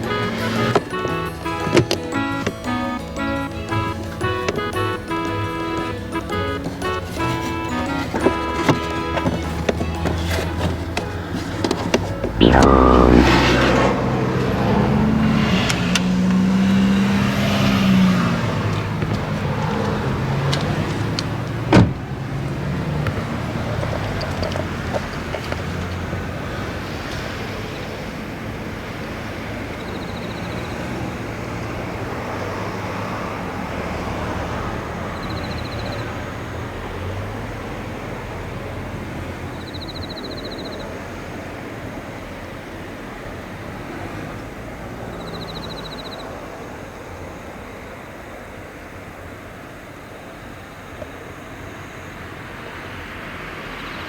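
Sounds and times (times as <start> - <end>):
rushing background noise: 0.0 - 54.0.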